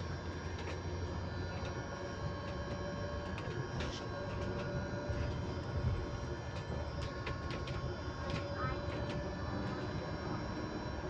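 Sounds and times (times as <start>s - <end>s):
electric bus whine: 0.0s - 11.0s
low rumble of bus ride: 0.0s - 11.0s.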